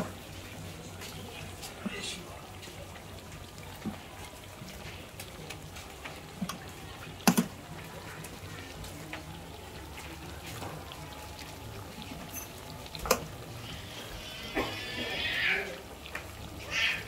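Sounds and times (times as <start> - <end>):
fritters sizzling in hot oil: 0.0 - 17.0.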